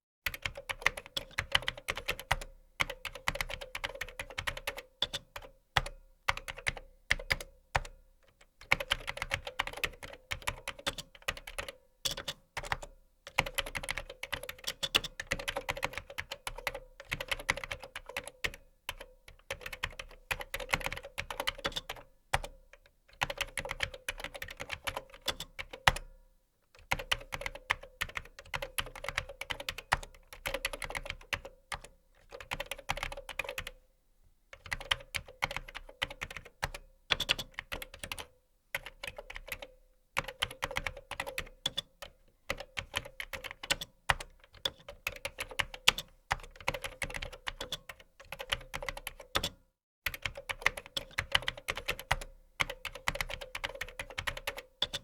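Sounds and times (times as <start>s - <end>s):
computer keyboard typing: 0.3s - 26.1s, 26.8s - 33.8s, 34.6s - 55.0s.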